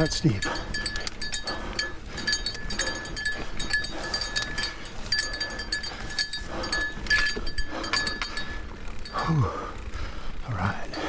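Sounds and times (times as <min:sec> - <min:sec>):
bike metallic clinking: 0:00.0 - 0:11.0
person breathing heavily: 0:00.0 - 0:11.0.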